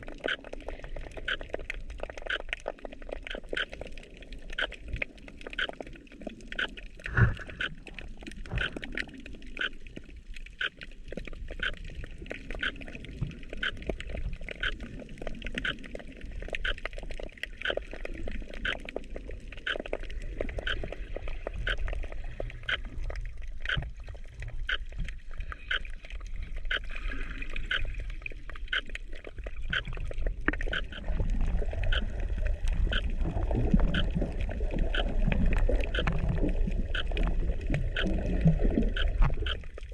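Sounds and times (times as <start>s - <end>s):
muffled underwater water movement: 0.0s - 39.9s.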